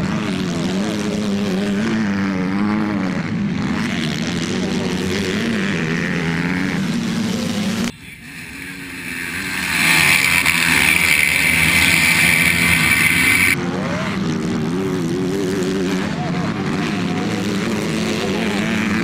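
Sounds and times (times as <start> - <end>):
motorcycle engine high-revving: 0.0 - 19.0
motorcycle engines racing: 0.0 - 19.0.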